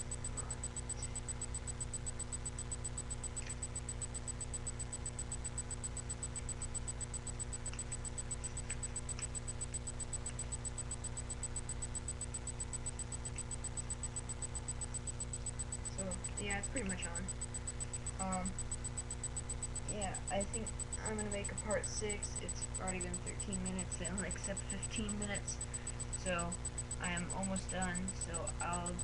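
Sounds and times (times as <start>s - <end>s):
low electrical hum: 0.0s - 29.0s
thin high whine: 0.0s - 29.0s.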